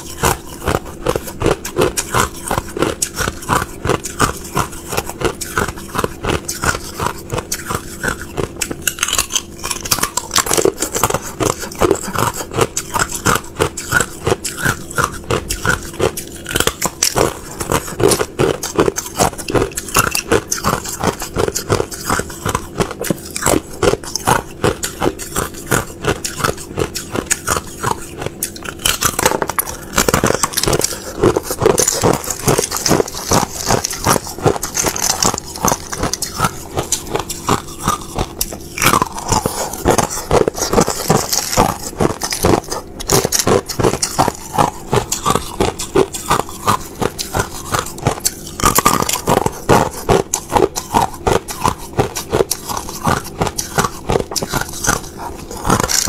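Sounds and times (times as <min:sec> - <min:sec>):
ice being chewed: 0:00.0 - 0:56.0.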